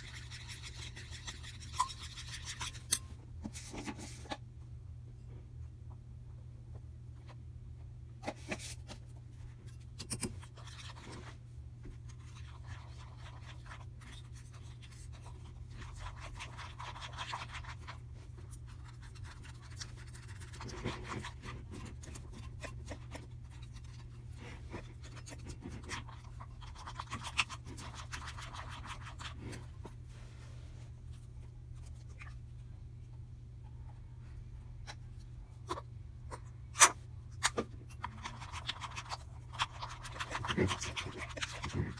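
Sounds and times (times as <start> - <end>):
spoon stirring slime: 0.0 - 4.4, 8.2 - 33.1, 33.8 - 41.9
steady low hum: 0.0 - 41.9.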